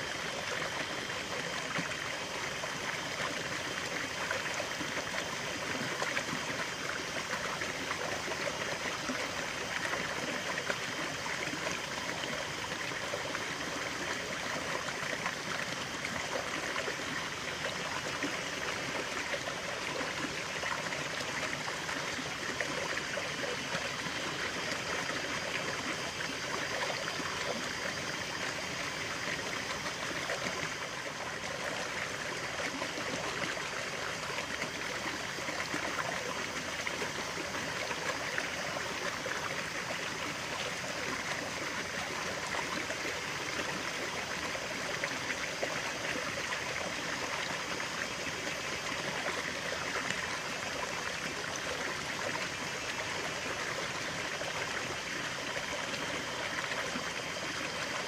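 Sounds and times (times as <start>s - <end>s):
stream flowing and trickling: 0.0s - 58.0s.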